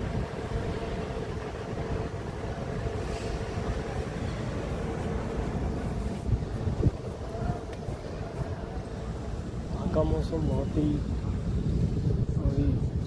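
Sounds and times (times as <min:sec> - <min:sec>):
faint steady hum: 0:00.0 - 0:13.0
wind buffeting microphone: 0:00.0 - 0:13.0.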